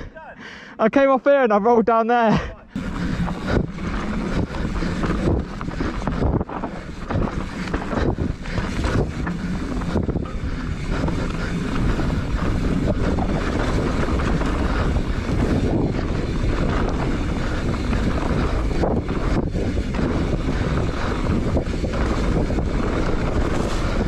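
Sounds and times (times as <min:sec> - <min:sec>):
bike rolling over trail: 0:02.8 - 0:24.0
wind buffeting microphone: 0:02.8 - 0:24.0.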